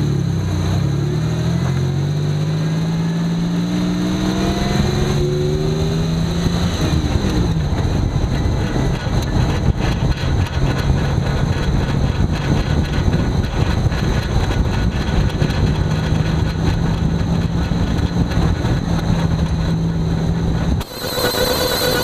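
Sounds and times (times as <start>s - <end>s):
low axle drone: 0.0s - 22.0s
tyre road and wind noise: 0.0s - 22.0s.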